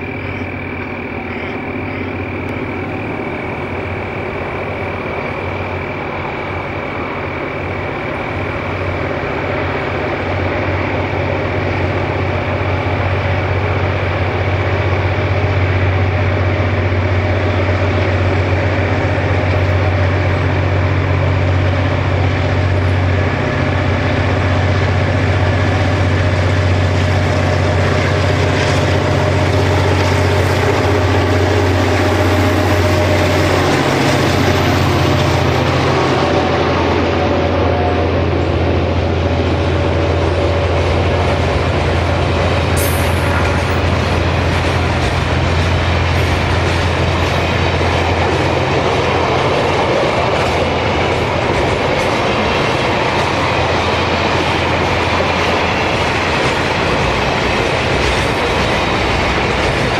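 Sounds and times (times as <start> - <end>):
diesel locomotive engines droning: 0.0 - 59.9.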